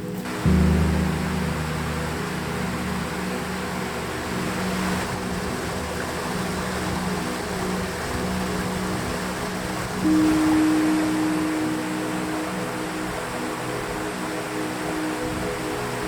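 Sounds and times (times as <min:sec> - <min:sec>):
background music with held notes: 0:00.0 - 0:16.0
steady rushing hiss: 0:00.0 - 0:16.0.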